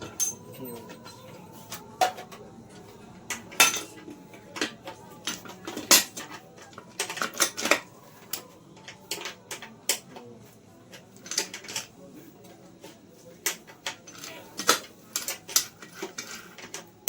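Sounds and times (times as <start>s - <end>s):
metal parts and tools clinking: 0.0s - 10.2s, 10.9s - 17.0s.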